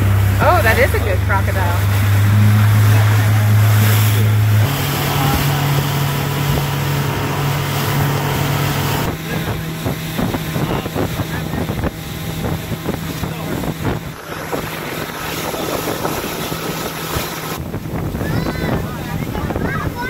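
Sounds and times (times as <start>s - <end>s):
motorboat engine running: 0.0s - 20.0s
water splashing along hull: 0.0s - 20.0s
wind on microphone: 0.0s - 20.0s.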